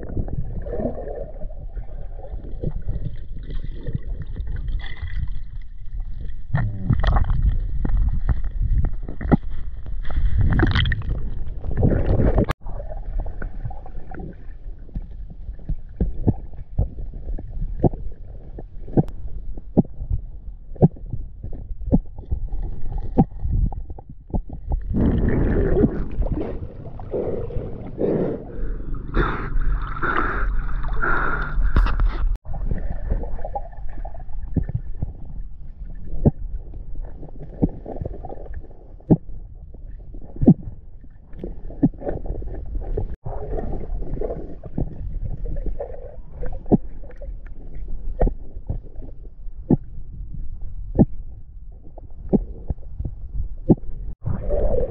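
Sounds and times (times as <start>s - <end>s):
muffled underwater rumble: 0.0s - 54.9s.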